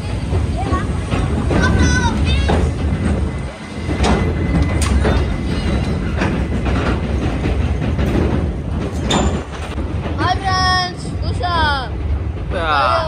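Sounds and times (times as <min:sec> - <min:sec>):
train rumbling over steel bridge: 0:00.0 - 0:13.0
wheels clanking over rail joints: 0:00.0 - 0:13.0.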